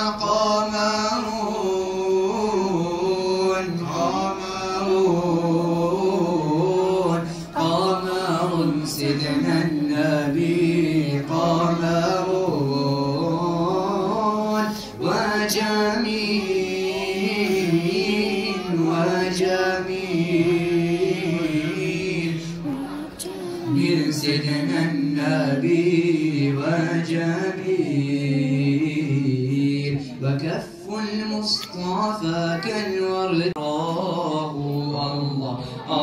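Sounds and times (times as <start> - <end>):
men chanting over sound system: 0.0 - 36.0.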